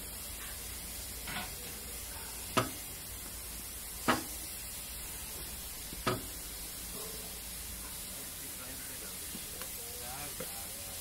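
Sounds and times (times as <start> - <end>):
steady steam hiss: 0.0 - 11.0.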